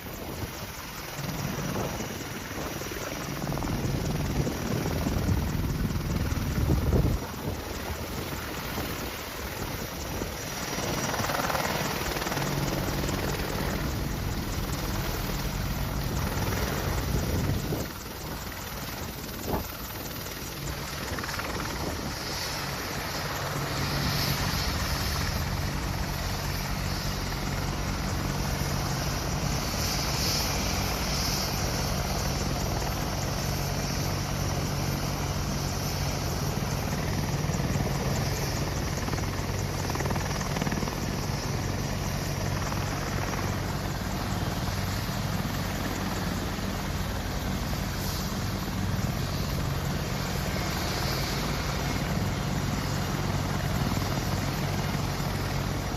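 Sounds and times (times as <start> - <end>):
helicopter rotor and engine: 0.0 - 55.9.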